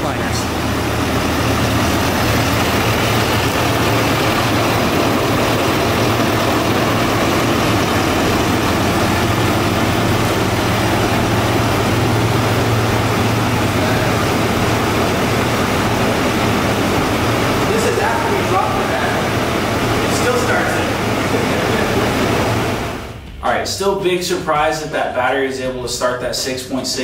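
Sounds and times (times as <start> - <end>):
diesel engine idling: 0.0 - 23.1.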